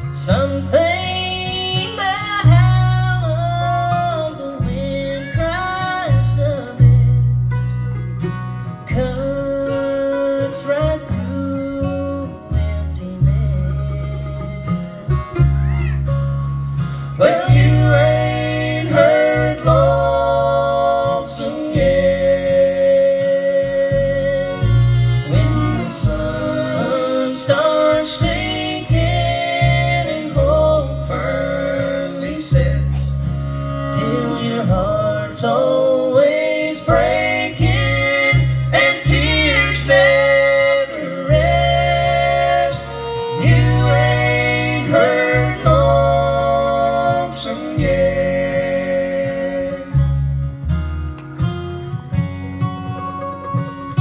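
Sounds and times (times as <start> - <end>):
live bluegrass band playing: 0.0 - 54.0
fiddles playing: 7.7 - 50.7, 51.4 - 54.0.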